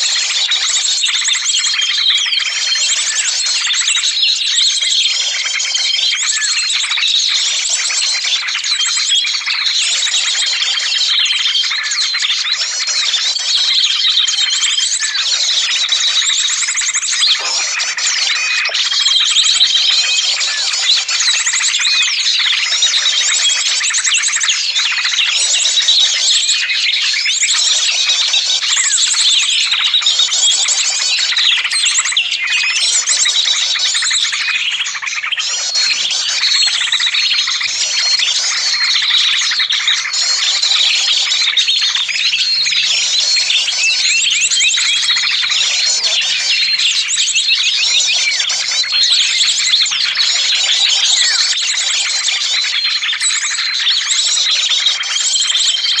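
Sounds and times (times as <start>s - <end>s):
many small birds chirping: 0.0s - 56.0s.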